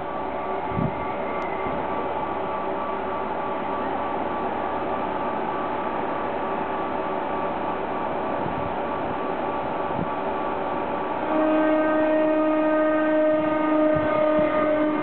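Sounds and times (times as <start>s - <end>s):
railcar flywheel drive hum: 0.0s - 15.0s.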